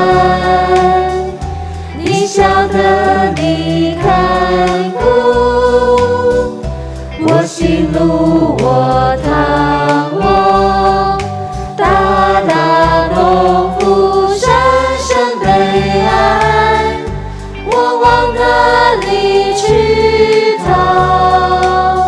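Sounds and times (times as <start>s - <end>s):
instrumental backing: 0.0s - 22.0s
people singing worship song: 0.0s - 22.0s.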